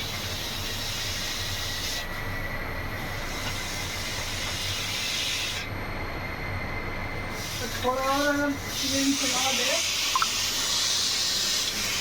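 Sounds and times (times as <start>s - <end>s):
air conditioner running: 0.0s - 12.0s
faint high whine: 0.0s - 12.0s.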